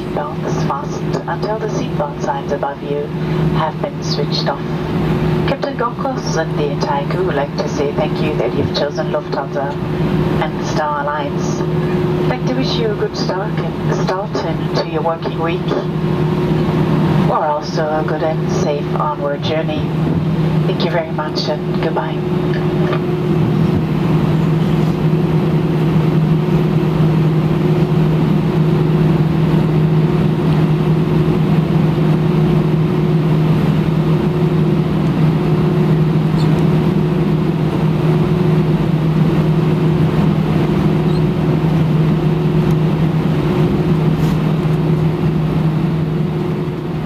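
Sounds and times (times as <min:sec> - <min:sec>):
airplane cabin hum: 0:00.0 - 0:47.0.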